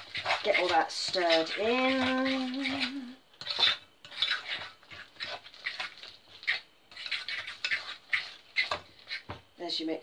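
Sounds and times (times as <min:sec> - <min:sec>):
batter stirred in glass bowl: 0:00.0 - 0:09.4.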